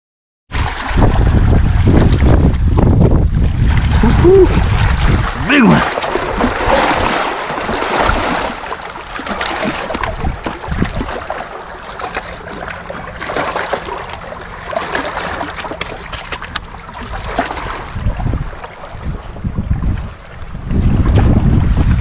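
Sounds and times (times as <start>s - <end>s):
small waves lapping against rocks: 0.6s - 20.2s.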